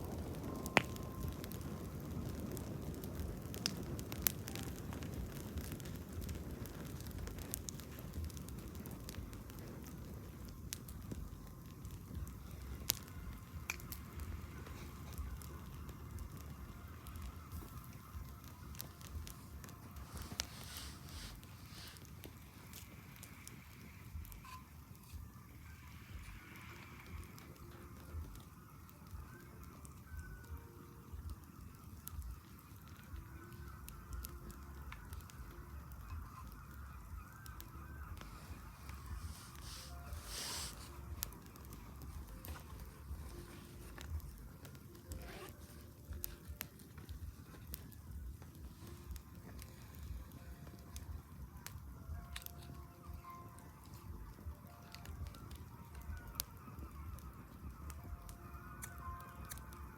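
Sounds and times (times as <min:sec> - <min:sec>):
sharp fire pops: 0:00.0 - 0:52.8
campfire crackling: 0:00.0 - 0:59.9.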